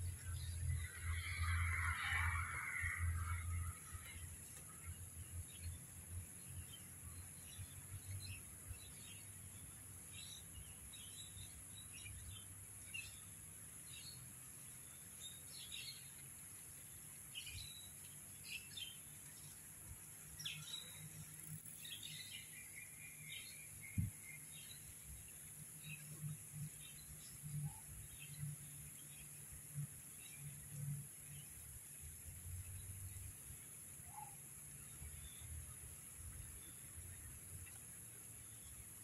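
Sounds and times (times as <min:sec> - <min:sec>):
insect drone: 0:00.0 - 0:39.0.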